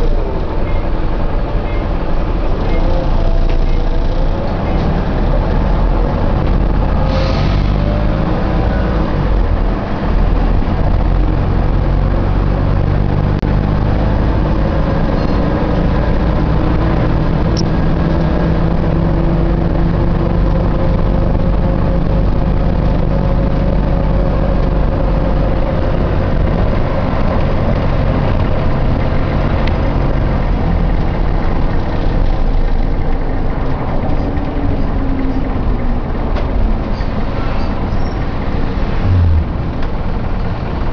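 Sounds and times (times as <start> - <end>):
bus engine and road drone: 0.0 - 40.9.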